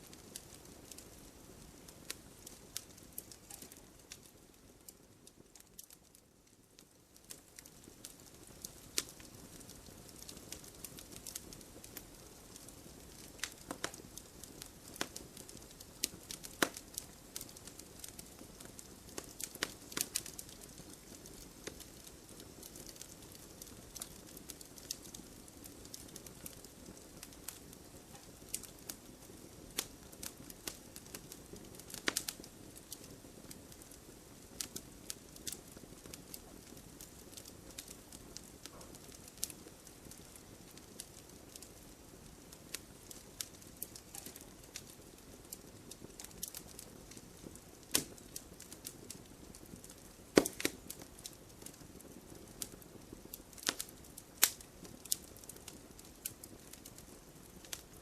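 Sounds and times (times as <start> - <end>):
soft steady hiss: 0.0 - 58.0
wood fire crackling: 0.0 - 58.0.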